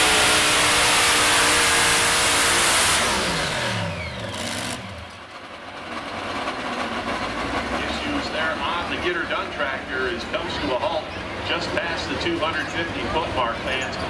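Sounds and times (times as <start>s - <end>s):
engines winding down: 0.0s - 14.0s
tractor engines at full throttle: 0.0s - 14.0s.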